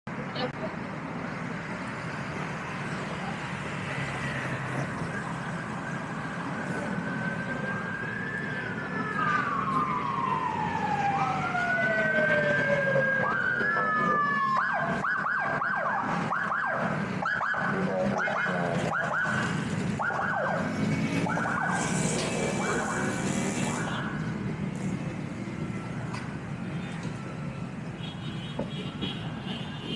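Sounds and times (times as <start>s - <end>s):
street traffic noise: 0.1s - 29.9s
emergency vehicle siren: 1.5s - 29.9s.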